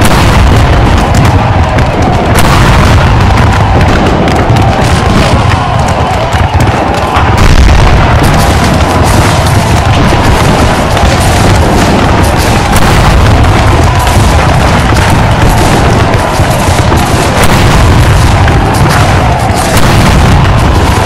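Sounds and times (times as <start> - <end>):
cannon booming: 0.0 - 21.0
crackling gunfire: 0.0 - 21.0
heavy low rumble: 0.0 - 21.0.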